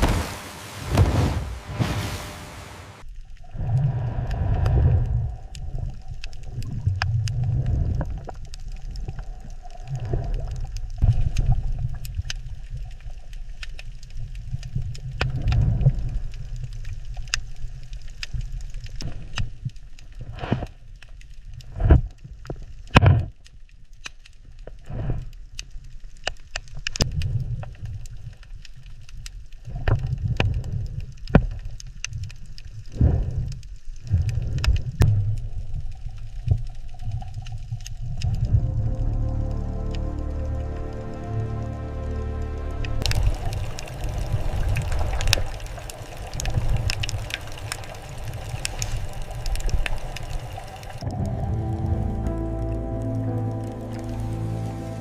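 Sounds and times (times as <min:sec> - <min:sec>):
low underwater rumbling wash: 0:00.0 - 0:19.7, 0:29.3 - 0:55.0
crackling clicks: 0:03.0 - 0:41.0, 0:42.8 - 0:51.4.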